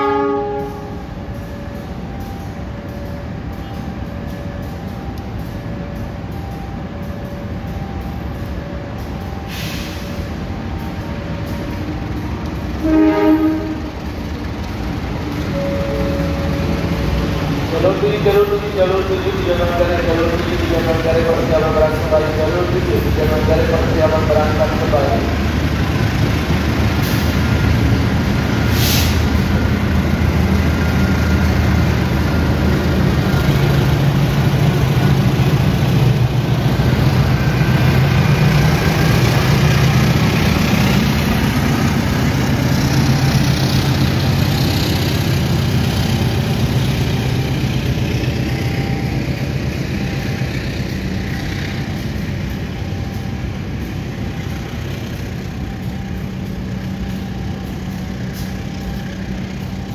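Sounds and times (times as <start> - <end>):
locomotive engine drone: 0.0 - 59.9
train coaches rolling by: 0.0 - 59.9.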